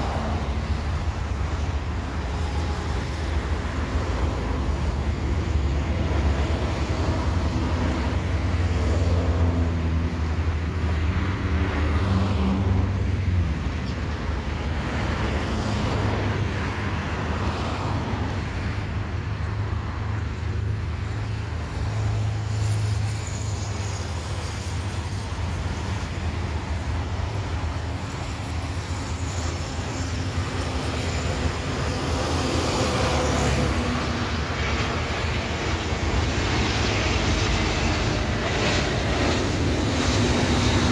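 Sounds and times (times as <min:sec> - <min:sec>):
airliner jet engines: 0:00.0 - 0:40.9
vehicles passing: 0:00.0 - 0:40.9.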